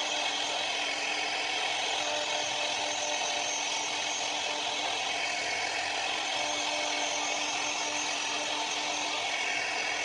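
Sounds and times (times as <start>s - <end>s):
bit cutting through wood: 0.0s - 10.0s
router spindle whine: 0.0s - 10.0s.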